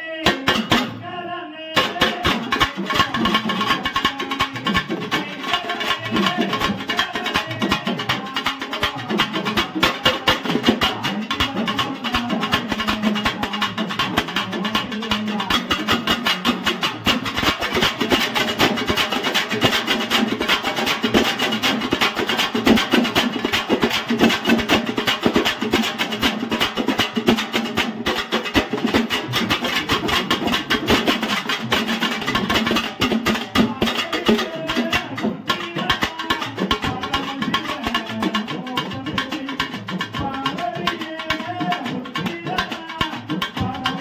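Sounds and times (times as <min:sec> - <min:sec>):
folk drums beating fast rhythm: 0:00.1 - 0:44.0.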